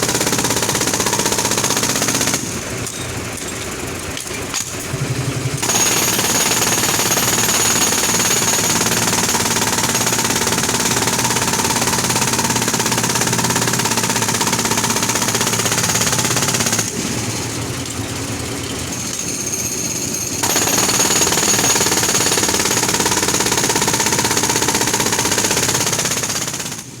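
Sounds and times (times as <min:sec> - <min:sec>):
road drill hammering: 0:00.0 - 0:27.0.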